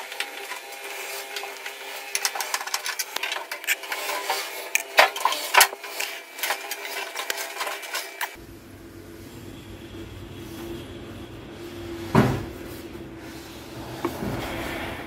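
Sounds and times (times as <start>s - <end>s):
steady whirring hum: 0.0s - 15.0s.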